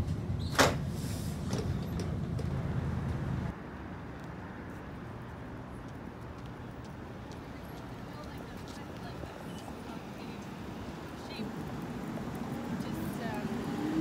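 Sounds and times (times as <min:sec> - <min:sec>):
street noise: 0:00.0 - 0:14.0
streetcar motors and wheels rumbling: 0:00.0 - 0:14.0.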